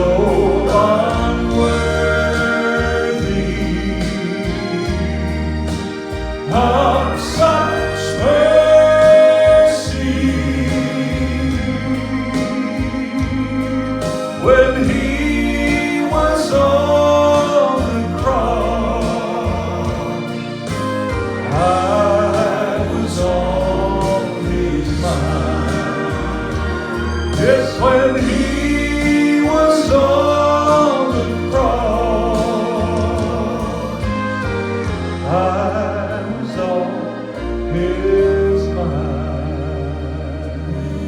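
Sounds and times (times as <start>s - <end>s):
gospel song with singing voices: 0.0s - 41.0s
steady bass accompaniment: 0.0s - 41.0s.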